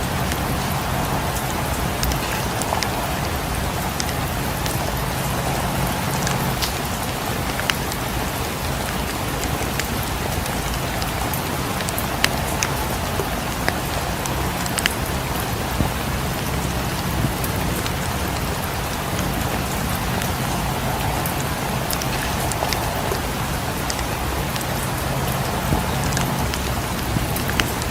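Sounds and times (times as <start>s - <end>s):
rain on windows: 0.0s - 27.9s
wood fire crackling: 0.0s - 27.9s.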